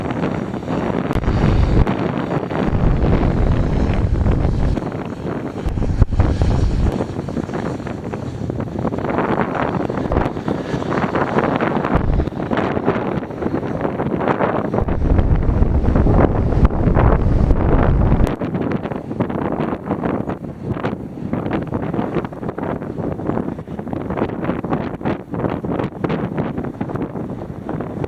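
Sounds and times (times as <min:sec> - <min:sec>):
airplane engines at takeoff: 0:00.0 - 0:28.0
wind buffeting microphone: 0:00.0 - 0:28.0.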